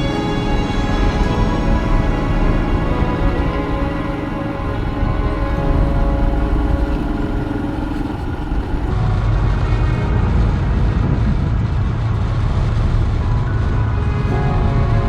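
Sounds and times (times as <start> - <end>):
faint music: 0.0 - 15.0
road vehicle rumble: 0.0 - 15.0.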